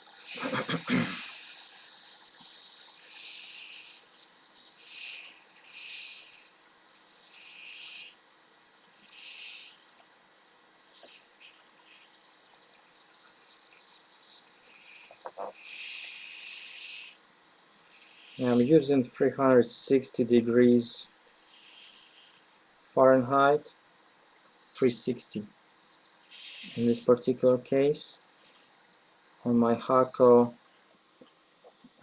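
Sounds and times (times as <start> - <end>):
hot air hissing from nozzle: 0.0 - 18.9, 21.2 - 22.9, 23.9 - 27.1, 28.3 - 30.5.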